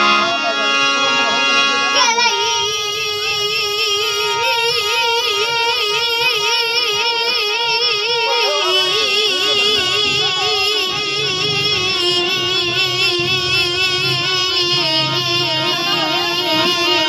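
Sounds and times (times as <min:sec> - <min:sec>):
boy singing with vibrato: 0:00.0 - 0:17.0
harmonium held notes: 0:00.0 - 0:17.0.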